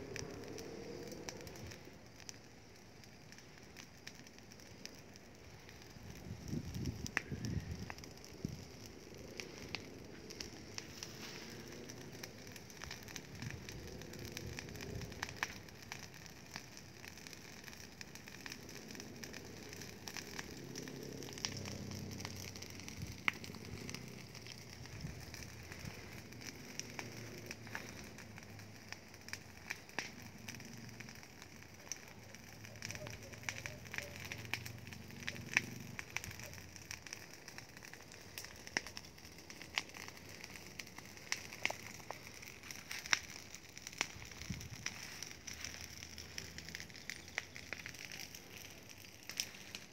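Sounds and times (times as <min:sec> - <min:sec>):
rubbish and dry grass burning: 0:00.0 - 0:49.9.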